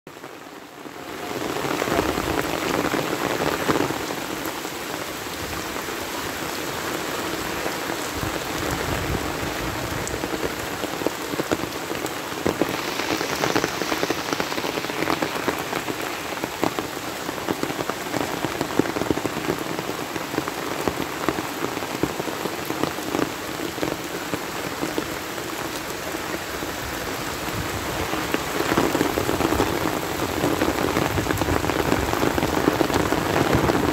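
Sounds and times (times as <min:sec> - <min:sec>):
heavy rain on water: 0:00.1 - 0:33.9.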